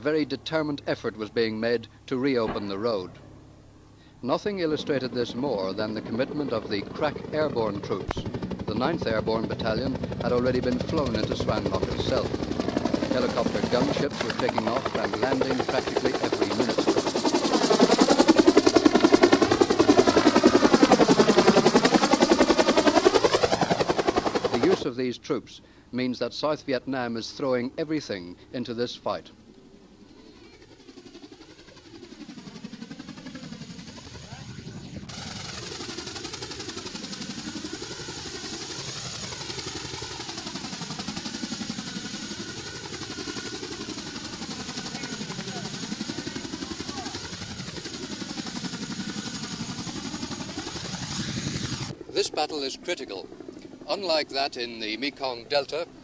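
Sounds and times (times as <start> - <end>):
helicopter rotor beating: 0.0 - 25.6, 26.2 - 56.0.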